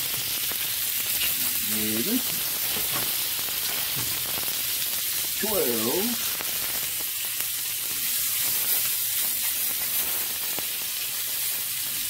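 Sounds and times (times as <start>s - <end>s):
meatballs sizzling in a pan: 0.0s - 12.0s.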